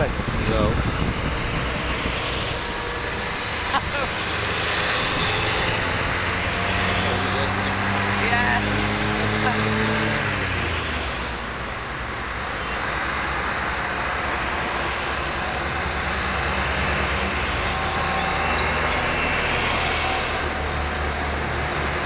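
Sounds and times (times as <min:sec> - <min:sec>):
military vehicles driving past: 0:00.0 - 0:22.0.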